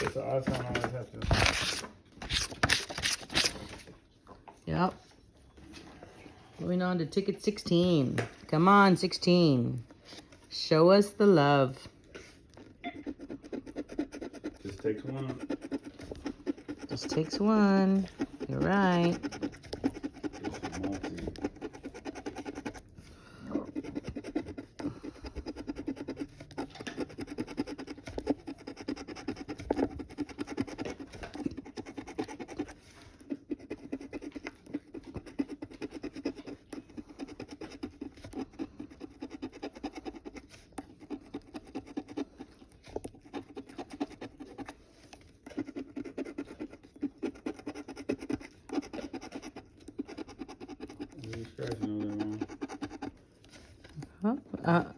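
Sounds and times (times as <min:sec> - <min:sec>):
scratching lottery ticket: 0:07.0 - 0:54.1.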